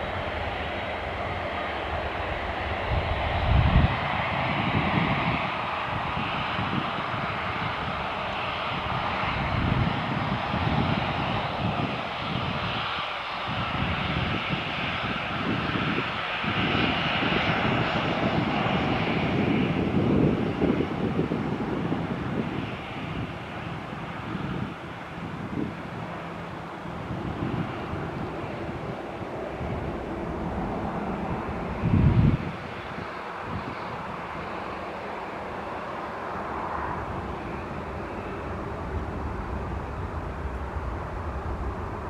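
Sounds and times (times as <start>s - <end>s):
airliner engines running: 0.0s - 42.0s.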